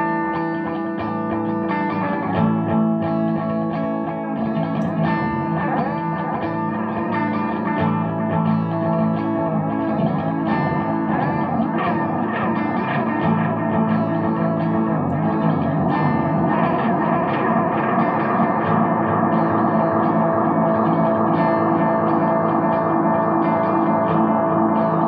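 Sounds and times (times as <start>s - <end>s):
electric guitar with effects: 0.0s - 25.0s.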